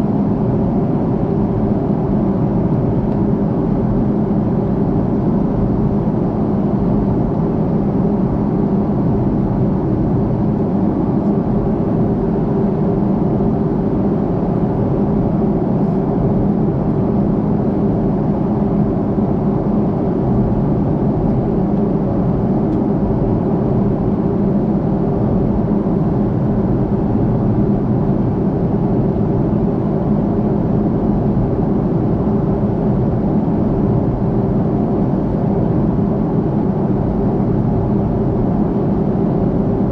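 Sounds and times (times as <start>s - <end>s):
airliner engines droning: 0.0s - 39.9s.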